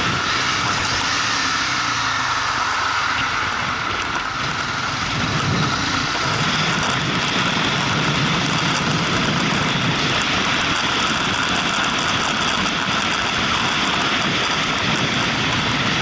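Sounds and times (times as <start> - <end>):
motorcycle engine riding: 0.0 - 16.0
wind noise: 0.0 - 16.0.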